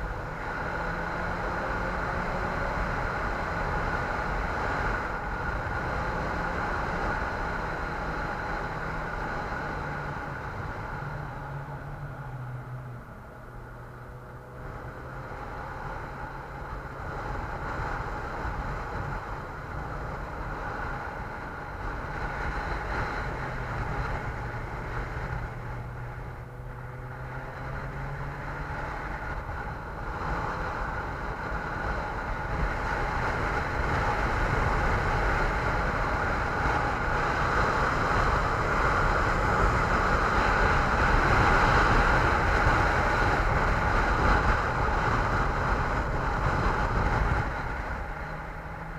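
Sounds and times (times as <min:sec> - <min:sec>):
road and wind noise: 0:00.0 - 0:48.9
vehicle engine low tone: 0:00.0 - 0:48.9.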